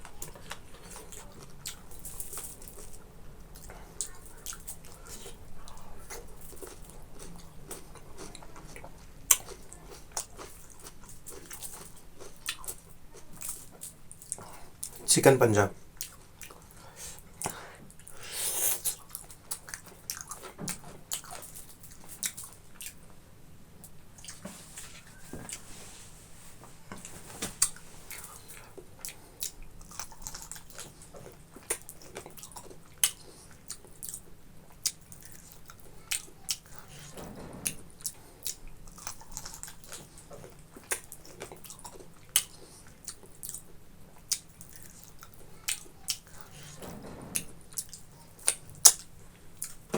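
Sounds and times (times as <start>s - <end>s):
person chewing food: 0.0s - 15.1s, 15.8s - 23.2s, 23.8s - 25.8s, 26.9s - 49.9s.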